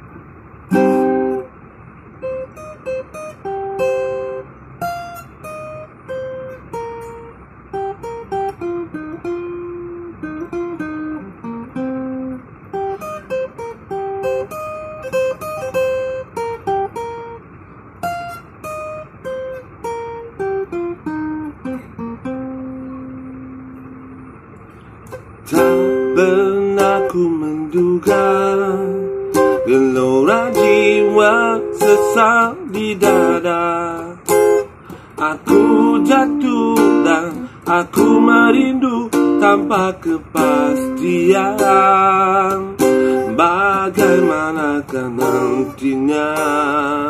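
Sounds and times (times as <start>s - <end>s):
acoustic guitar strummed and picked: 0.0s - 47.0s.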